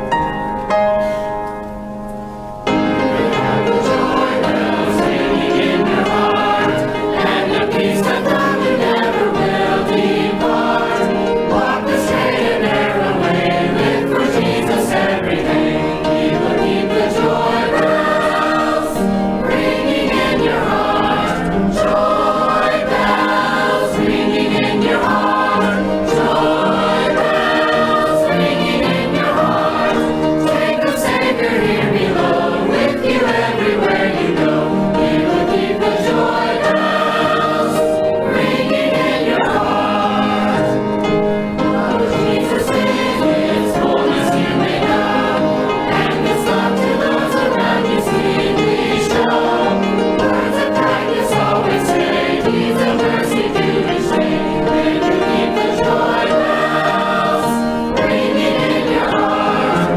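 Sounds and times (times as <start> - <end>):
choir singing gospel song: 2.2 - 59.9.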